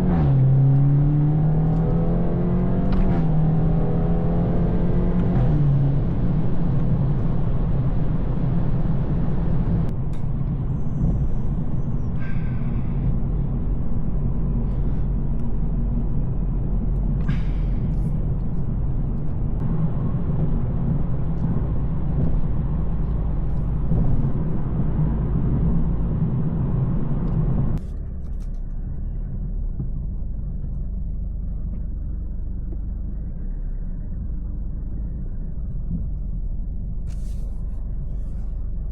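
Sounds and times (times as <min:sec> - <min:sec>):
car engine and exhaust droning: 0:00.0 - 0:38.9
road noise: 0:00.0 - 0:38.9.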